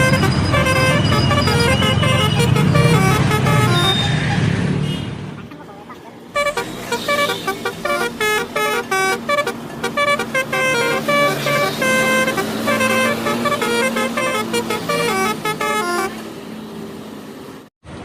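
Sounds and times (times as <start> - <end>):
bus multi-tone horn melody: 0.0 - 5.6, 6.2 - 16.8.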